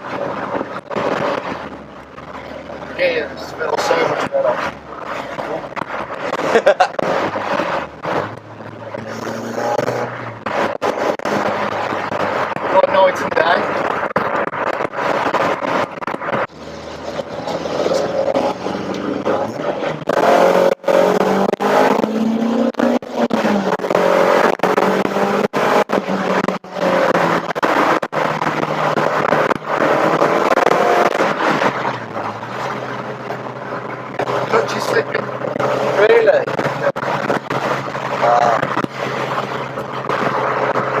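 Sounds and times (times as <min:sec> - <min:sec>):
car engine revving under load: 0:00.0 - 0:41.0.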